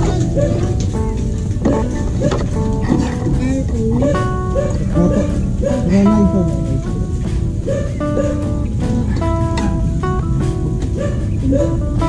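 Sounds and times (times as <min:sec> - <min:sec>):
plucked guitar music: 0:00.0 - 0:12.0
steady low rumble: 0:00.0 - 0:12.0.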